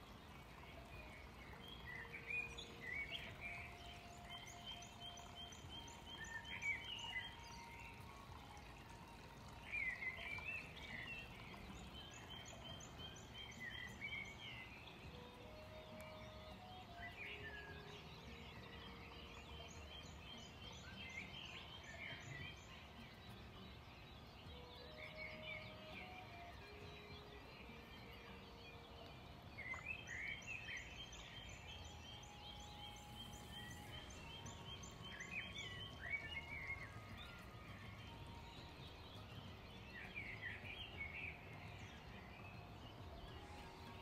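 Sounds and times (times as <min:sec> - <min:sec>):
faint birdsong: 0:00.0 - 0:44.0.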